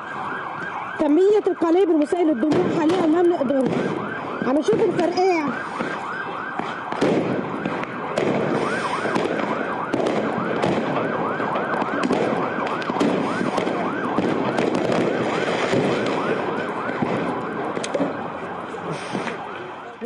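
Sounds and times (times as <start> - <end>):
siren yelping: 0.0 - 20.0
street din: 0.0 - 20.0
fireworks cracking and banging: 0.6 - 19.7.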